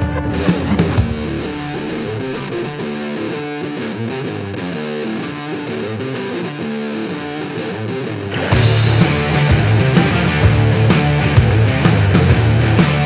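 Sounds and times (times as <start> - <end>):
guitar music with picked notes: 0.0 - 13.0.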